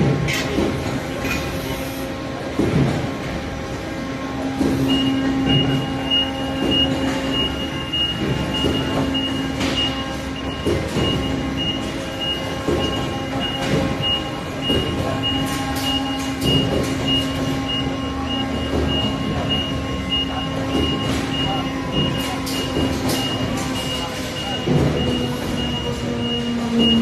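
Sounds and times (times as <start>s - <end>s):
high pulsing beep: 4.8s - 27.0s.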